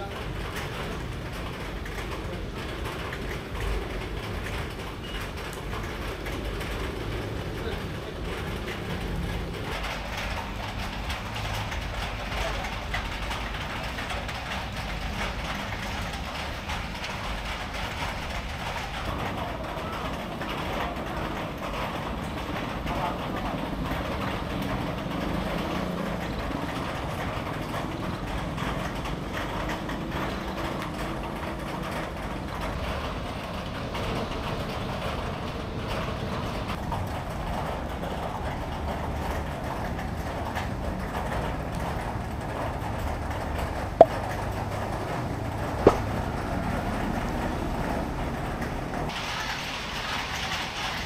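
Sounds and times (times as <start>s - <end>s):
street traffic noise: 0.0s - 51.0s.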